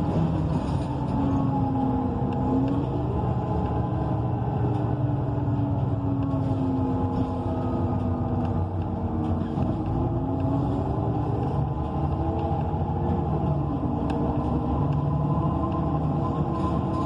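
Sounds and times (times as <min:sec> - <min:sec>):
bus engine running: 0:00.0 - 0:17.0
drivetrain hum: 0:00.0 - 0:17.0
road noise: 0:00.0 - 0:17.0.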